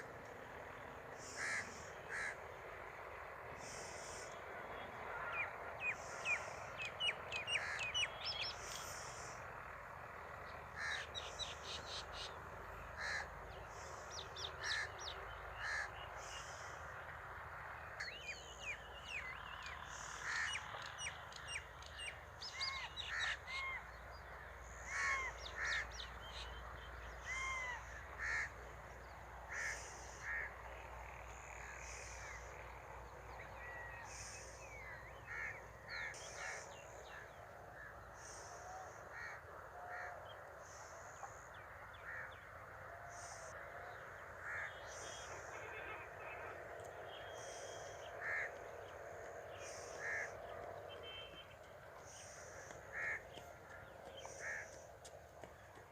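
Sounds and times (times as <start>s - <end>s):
steady background hiss: 0.0s - 55.7s
birds calling and chirping: 0.0s - 55.9s.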